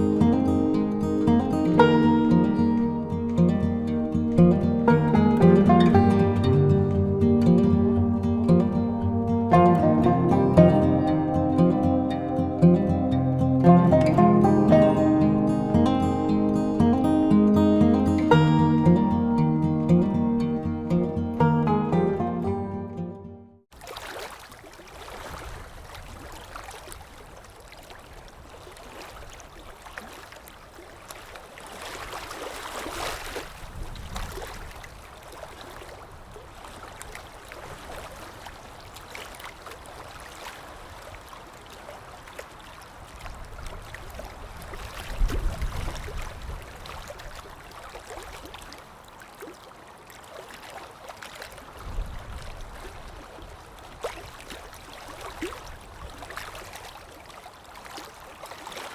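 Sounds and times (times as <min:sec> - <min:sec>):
creek water flowing: 0:00.0 - 0:23.1, 0:23.7 - 0:58.9.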